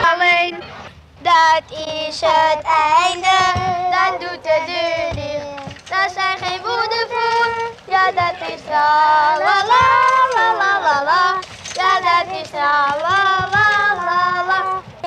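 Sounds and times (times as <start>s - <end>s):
child singing: 1.2s - 15.0s.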